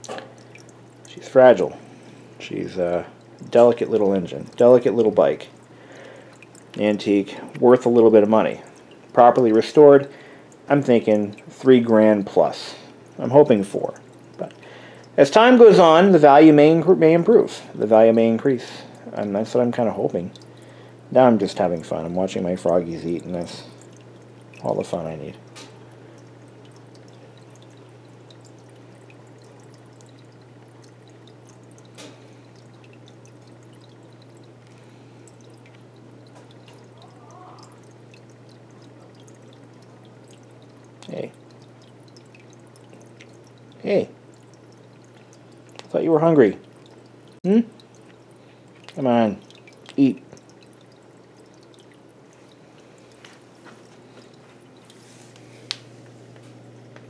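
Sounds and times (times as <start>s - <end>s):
aquarium water trickling: 0.0s - 57.0s
steady low hum: 0.0s - 57.0s.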